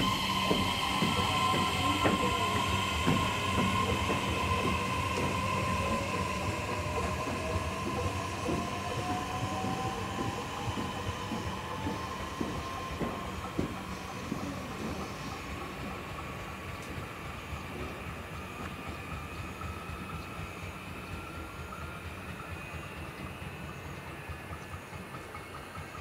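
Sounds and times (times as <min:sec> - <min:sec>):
train motor whine: 0:00.0 - 0:26.0.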